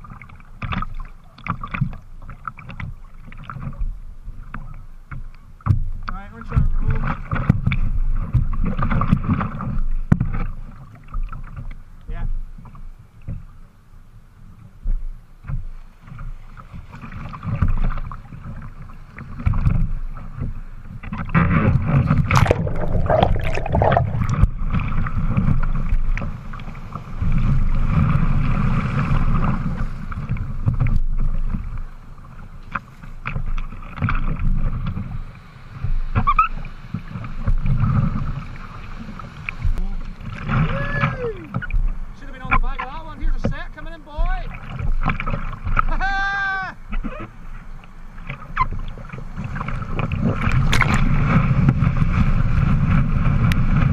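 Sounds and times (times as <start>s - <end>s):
water rushing and splashing: 0.0s - 13.7s, 14.8s - 53.9s
paddle splashes: 0.0s - 13.8s, 14.4s - 53.9s.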